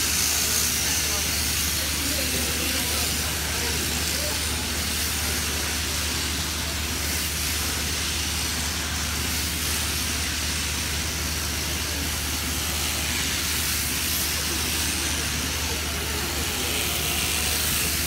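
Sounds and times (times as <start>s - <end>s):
shearing handpiece running: 0.0s - 18.0s.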